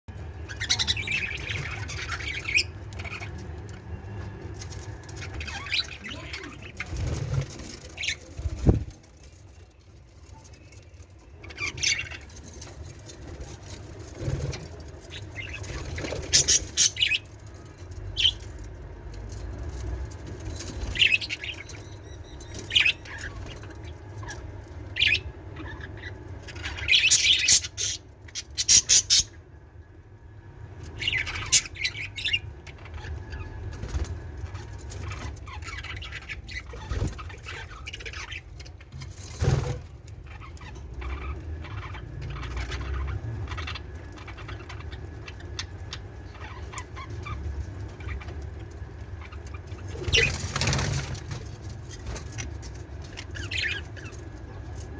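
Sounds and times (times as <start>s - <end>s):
budgerigars chirping and squawking: 0.1s - 29.5s, 30.6s - 54.9s.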